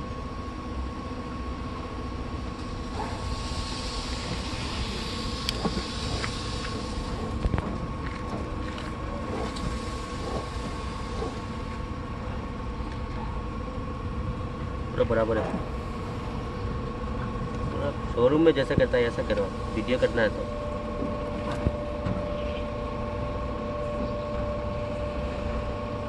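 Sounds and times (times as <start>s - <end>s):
low mechanical rumble: 0.0s - 26.0s.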